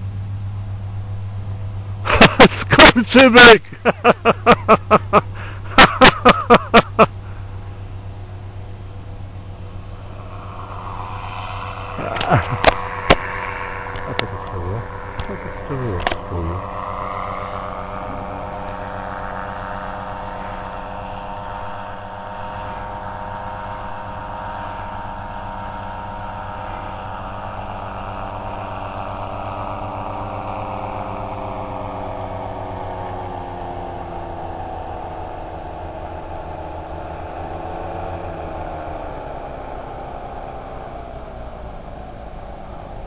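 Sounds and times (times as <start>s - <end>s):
paramotor engine drone: 0.0s - 43.0s.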